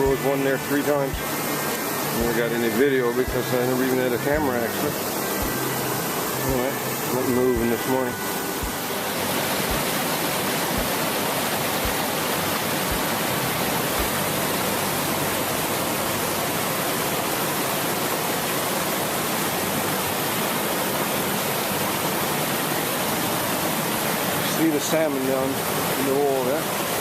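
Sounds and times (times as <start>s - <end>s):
river rushing over rapids: 0.0s - 27.0s.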